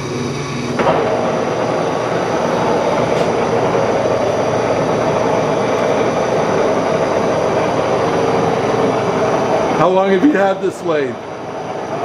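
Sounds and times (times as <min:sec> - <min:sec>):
lathe whirring: 0:00.0 - 0:12.0.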